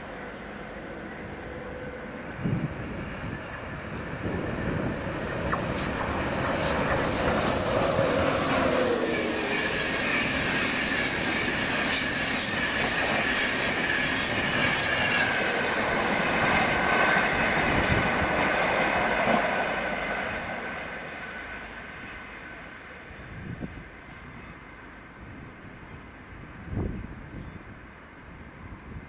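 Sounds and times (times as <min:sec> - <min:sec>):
train running on rails: 0:00.0 - 0:29.0.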